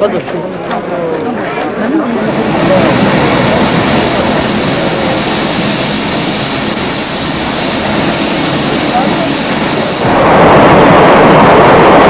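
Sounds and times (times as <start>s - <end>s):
train rushing noise: 0.0s - 12.0s.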